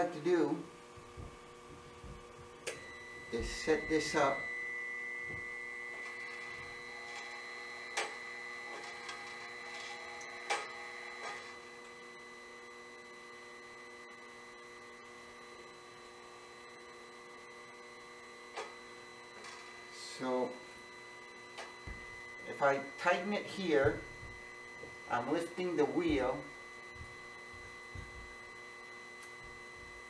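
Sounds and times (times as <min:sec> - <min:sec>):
sharpening machine motor hum: 0:02.6 - 0:30.0.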